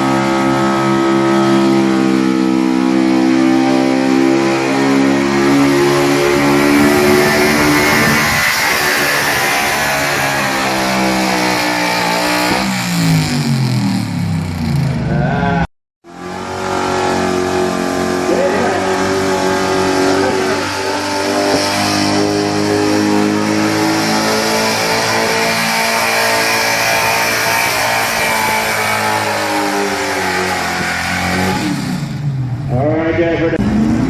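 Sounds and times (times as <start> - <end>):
truck engine revving hard: 0.0 - 32.8, 33.4 - 34.0.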